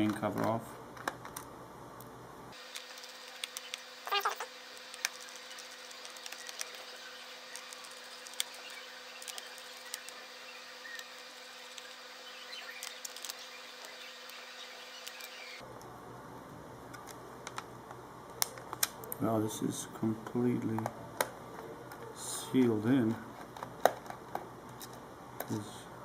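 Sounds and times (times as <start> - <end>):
steady buzzing hum: 0.0 - 26.0.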